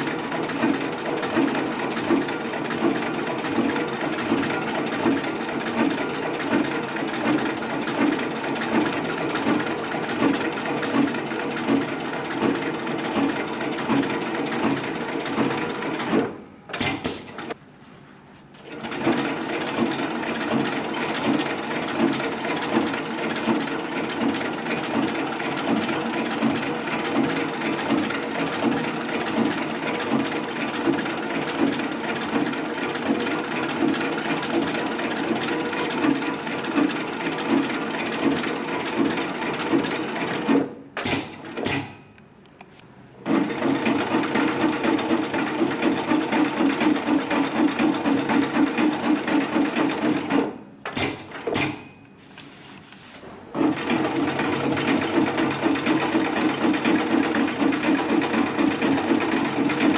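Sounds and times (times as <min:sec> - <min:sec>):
sewing machine running: 0:00.0 - 0:16.4, 0:18.6 - 0:41.9, 0:43.2 - 0:51.8, 0:53.5 - 0:59.9.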